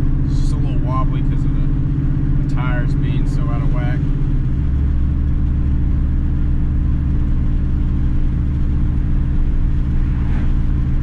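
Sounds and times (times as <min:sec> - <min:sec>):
road and tyre noise: 0:00.0 - 0:11.0
truck engine and exhaust drone: 0:00.0 - 0:11.0.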